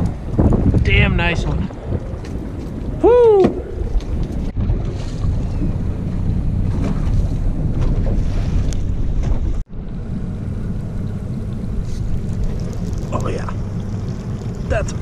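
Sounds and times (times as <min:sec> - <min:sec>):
water noise: 0:00.0 - 0:15.0
wind rumbling on microphone: 0:00.0 - 0:15.0.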